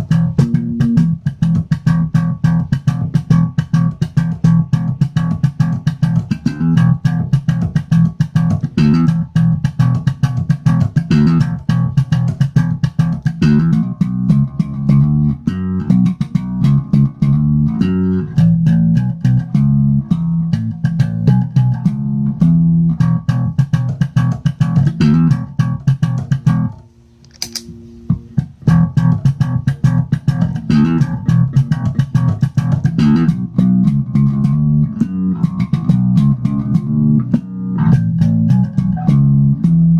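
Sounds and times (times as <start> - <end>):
electric bass guitar plucked notes: 0.0 - 26.9, 27.5 - 39.9.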